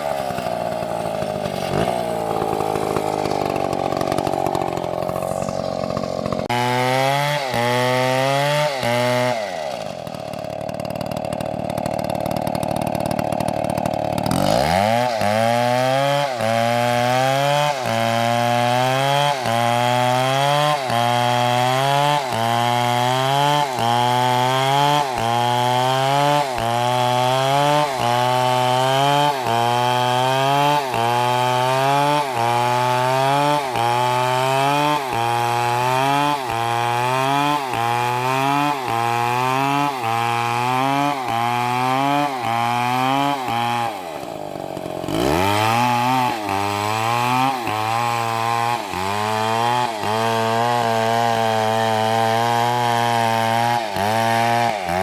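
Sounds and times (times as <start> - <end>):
chainsaw cutting tree: 0.0 - 55.0.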